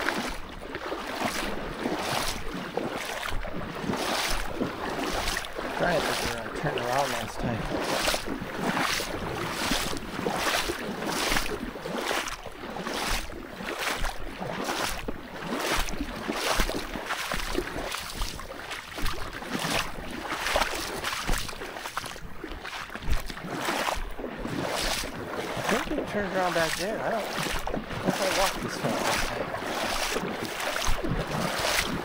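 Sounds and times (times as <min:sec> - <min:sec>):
swishing footsteps: 0:00.0 - 0:32.0.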